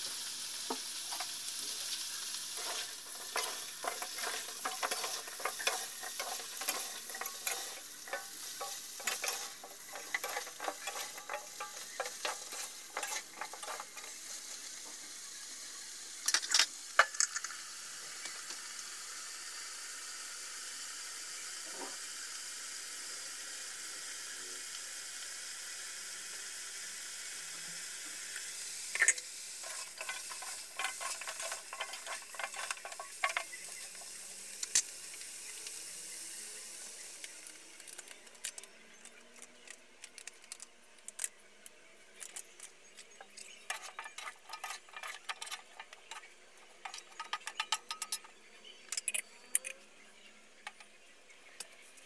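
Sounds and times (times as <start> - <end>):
steam hissing and sizzling: 0.0 - 41.3, 42.1 - 49.8
crackles and pops of frying: 0.0 - 52.0.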